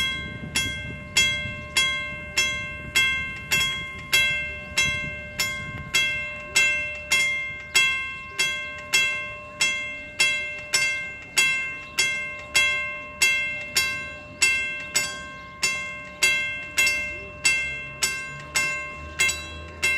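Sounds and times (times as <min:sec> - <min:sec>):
level crossing bell ringing: 0:00.0 - 0:19.9.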